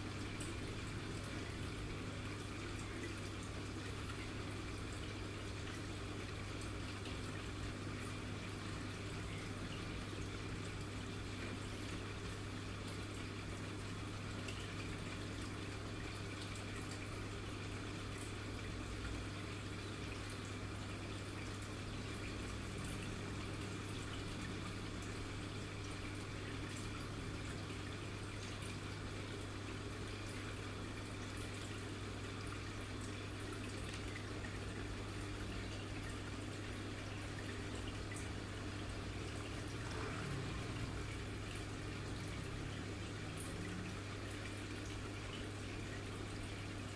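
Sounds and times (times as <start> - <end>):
aerated water bubbling in fish tank: 0.0 - 46.9
constant low hum: 0.0 - 46.9.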